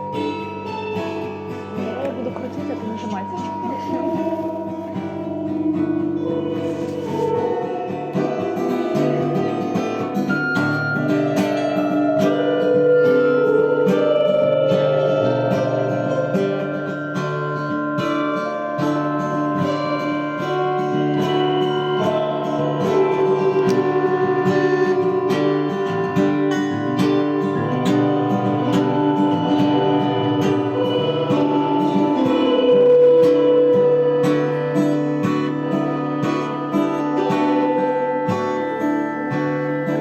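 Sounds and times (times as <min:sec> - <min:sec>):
low sustained tone: 0:00.0 - 0:40.0
plucked guitar notes: 0:00.0 - 0:40.0.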